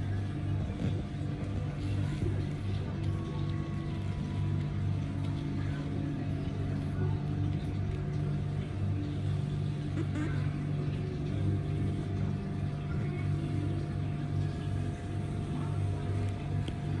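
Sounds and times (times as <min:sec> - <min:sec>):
faint constant whine: 0:00.0 - 0:17.0
low pulsing machine hum: 0:00.0 - 0:17.0.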